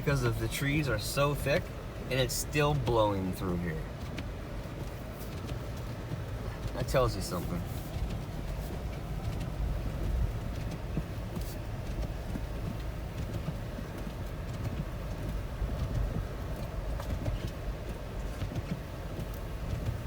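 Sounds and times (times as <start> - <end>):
engine and tyres rumbling in snow: 0.0 - 20.0.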